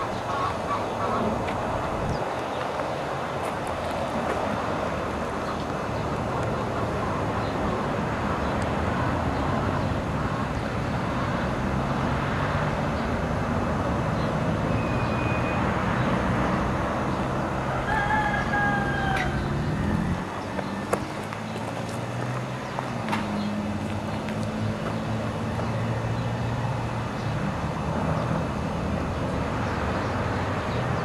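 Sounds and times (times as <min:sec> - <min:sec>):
traffic noise: 0:00.0 - 0:31.0.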